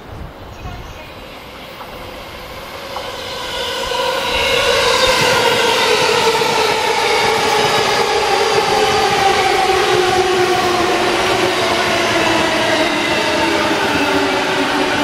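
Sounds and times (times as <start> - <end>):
rumble of running train: 0.0 - 15.0.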